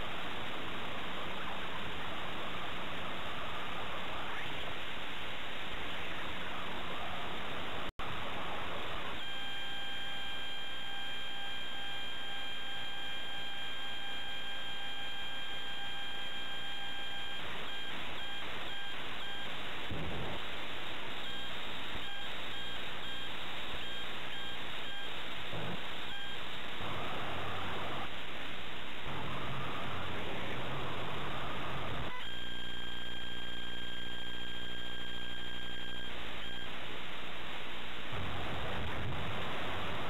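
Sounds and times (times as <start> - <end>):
tape hiss: 0.0 - 40.0.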